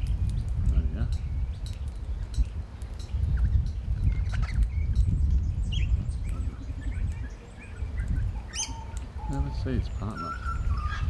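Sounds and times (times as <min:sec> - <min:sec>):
bird chirps and calls: 0:00.0 - 0:11.0
wind rumbling on microphone: 0:00.0 - 0:11.0.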